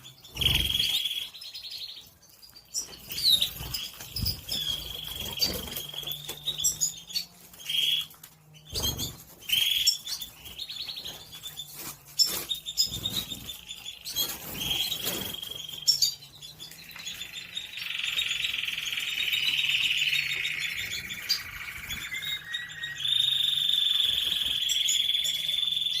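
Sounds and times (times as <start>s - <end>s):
canaries singing trills: 0.0s - 26.0s.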